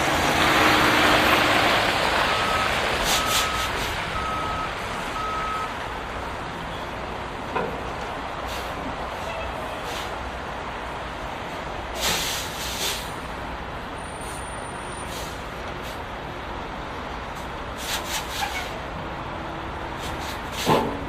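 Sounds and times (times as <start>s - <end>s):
vehicle running noise: 0.0s - 21.0s.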